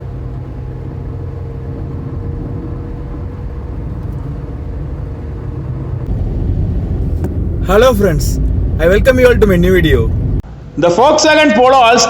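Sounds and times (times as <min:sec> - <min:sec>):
car engine running steadily: 0:00.0 - 0:10.5.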